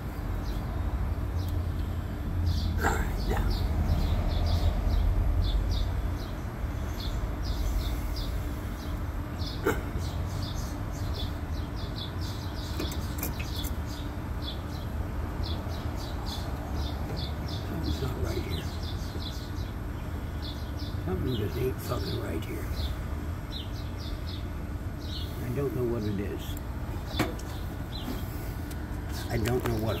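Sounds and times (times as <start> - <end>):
bird chirping: 0.0 - 30.0
low outdoor rumble: 0.0 - 30.0.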